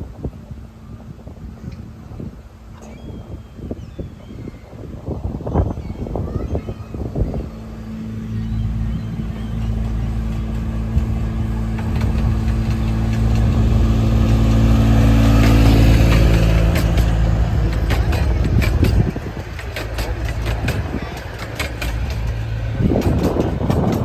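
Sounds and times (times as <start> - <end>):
miniature train engine humming: 0.0 - 24.0.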